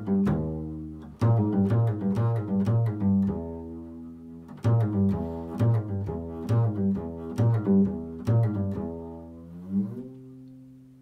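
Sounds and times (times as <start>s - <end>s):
double bass plucked notes: 0.0s - 11.0s.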